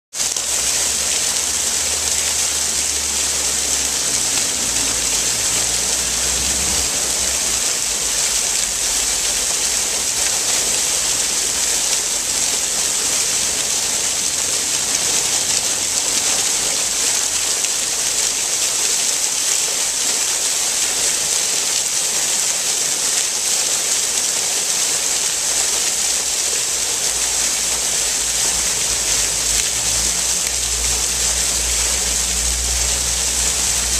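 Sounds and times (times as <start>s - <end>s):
fountain water splashing: 0.1s - 33.9s.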